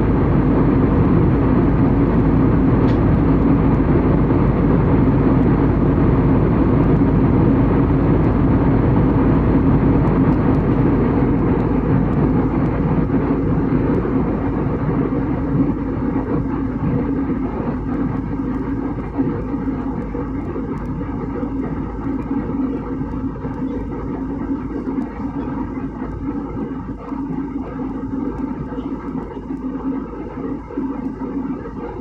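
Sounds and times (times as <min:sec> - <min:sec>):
constant low hum: 0:00.0 - 0:32.0
jet engines rumbling: 0:00.0 - 0:32.0.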